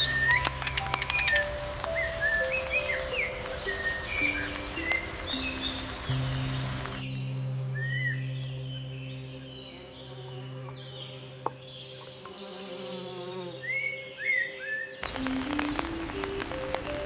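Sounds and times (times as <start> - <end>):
small birds chirping: 0.0 - 17.0
soft music drone: 0.0 - 17.0.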